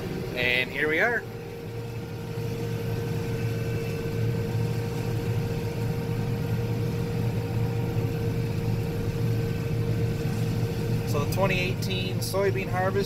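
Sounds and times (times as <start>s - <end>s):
harvester engine hum: 0.0s - 13.0s
mid-pitched machine whine: 0.0s - 13.0s.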